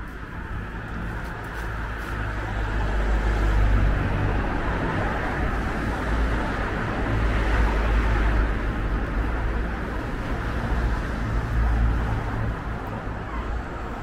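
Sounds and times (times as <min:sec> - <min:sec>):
cars passing on street: 0:00.0 - 0:14.0.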